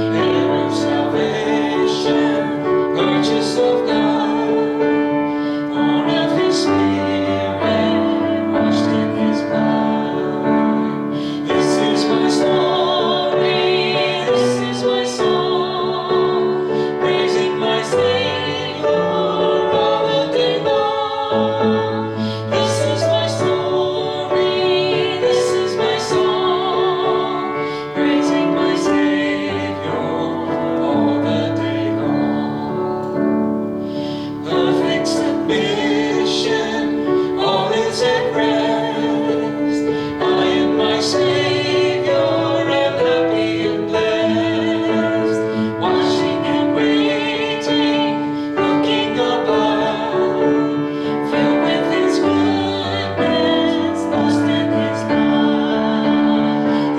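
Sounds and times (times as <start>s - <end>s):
person singing with vibrato: 0.0s - 56.9s
piano accompaniment: 0.0s - 56.9s.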